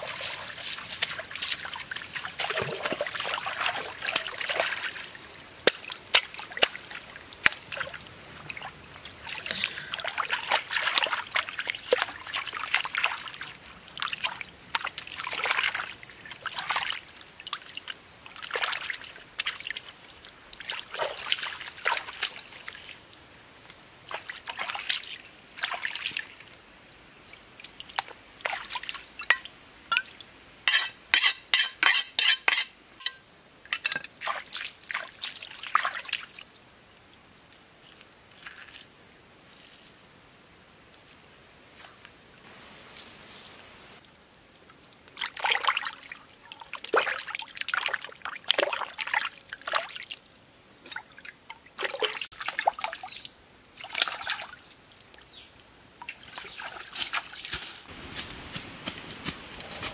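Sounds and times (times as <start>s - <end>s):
water splashing and sloshing: 0.0s - 32.7s, 33.7s - 40.0s, 42.4s - 59.9s.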